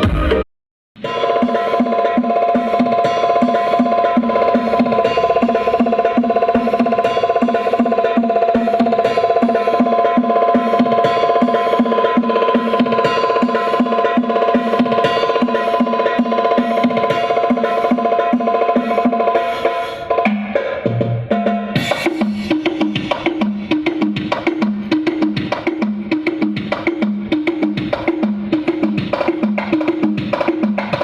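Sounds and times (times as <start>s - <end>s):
loud percussion-driven music: 0.0s - 0.4s, 1.0s - 31.0s.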